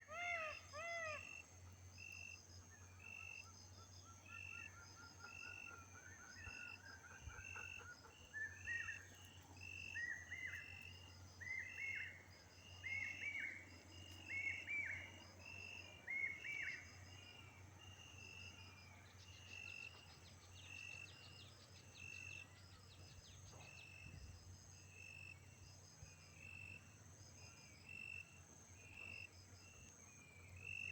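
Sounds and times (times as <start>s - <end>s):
insect chirping: 0.1s - 30.9s.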